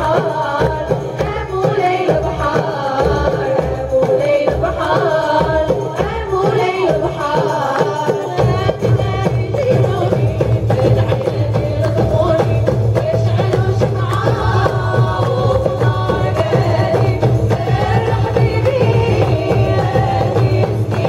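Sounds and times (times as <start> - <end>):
hand drums beating: 0.0 - 21.0
women's ensemble singing: 0.0 - 21.0.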